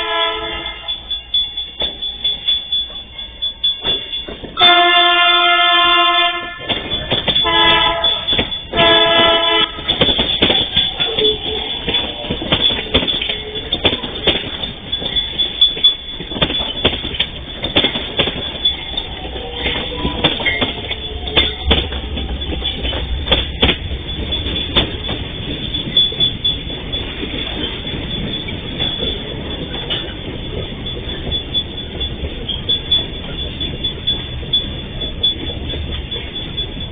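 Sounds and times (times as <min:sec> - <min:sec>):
heavy train rumble: 0:00.0 - 0:36.9
train wheels clattering over rail joints: 0:03.6 - 0:36.9
train wheel squeal: 0:06.6 - 0:36.9.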